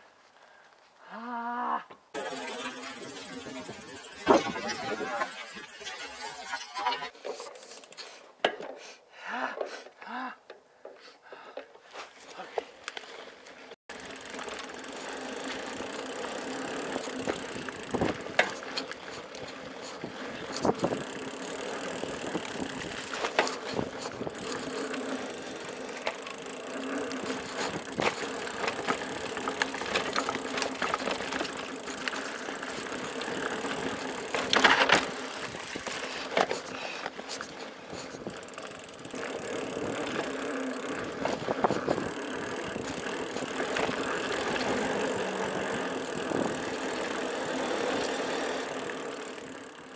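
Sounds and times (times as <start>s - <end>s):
bike tyre and trail noise: 2.1s - 9.9s, 10.8s - 49.9s
bike clattering over bumps: 2.2s - 8.7s, 13.9s - 49.9s.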